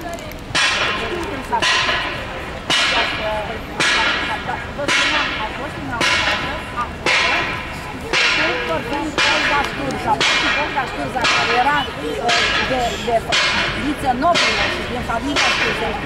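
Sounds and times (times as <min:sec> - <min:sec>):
people talking: 0:00.0 - 0:16.0
church bell tolling: 0:00.6 - 0:16.0.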